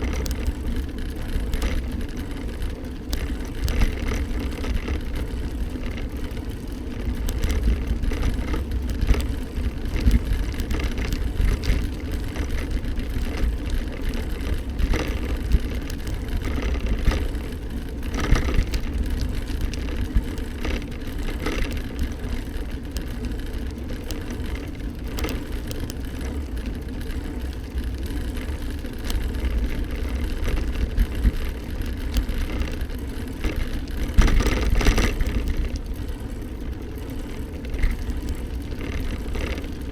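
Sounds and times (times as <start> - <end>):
bike rumbling on road: 0.0 - 39.9.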